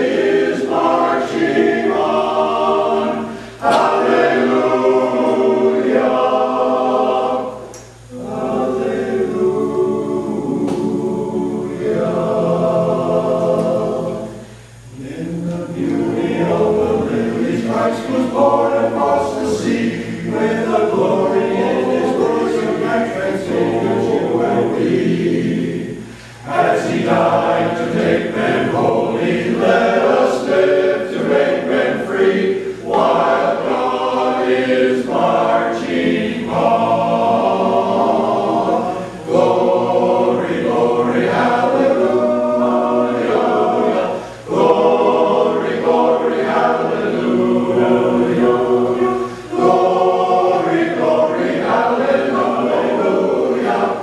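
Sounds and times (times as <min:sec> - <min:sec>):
men's chorus singing a cappella: 0:00.0 - 0:54.0.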